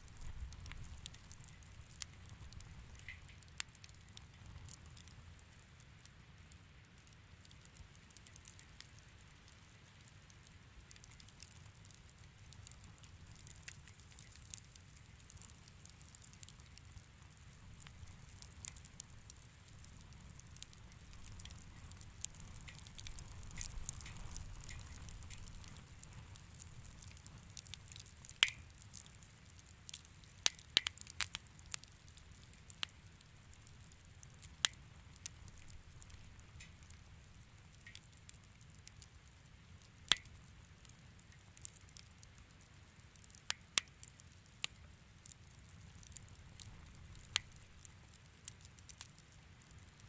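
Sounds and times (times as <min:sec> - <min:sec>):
fire rumbling: 0:00.0 - 0:05.4, 0:06.4 - 0:50.0
fire popping and snapping: 0:00.0 - 0:50.0.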